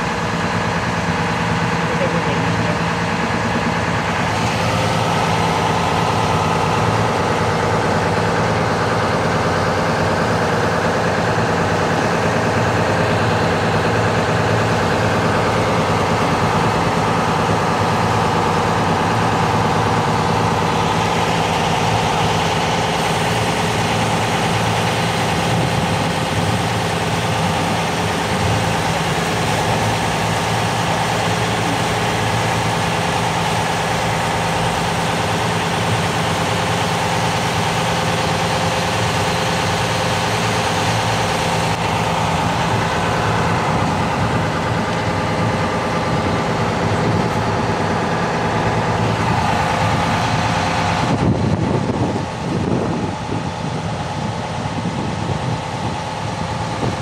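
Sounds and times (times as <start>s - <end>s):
boat engine humming: 0.0s - 57.0s
churning water rushing: 0.0s - 57.0s.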